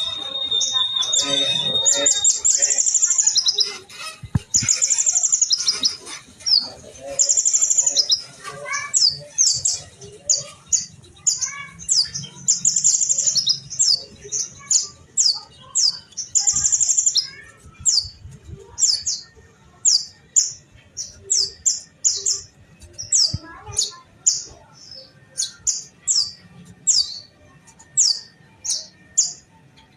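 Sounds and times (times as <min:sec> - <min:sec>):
sunbirds chirping: 0:00.0 - 0:29.9.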